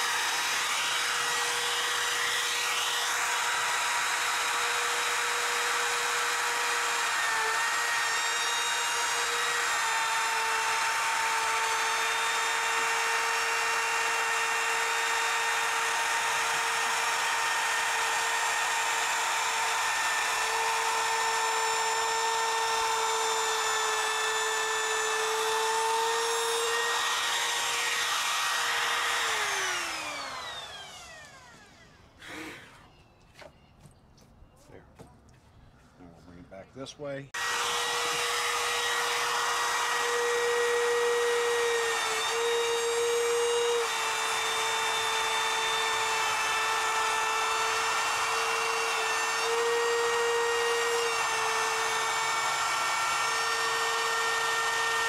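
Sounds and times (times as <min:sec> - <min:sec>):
router winding down: 0:00.0 - 0:33.0, 0:37.4 - 0:55.0
trim router cutting wood: 0:00.0 - 0:33.5, 0:36.8 - 0:55.0.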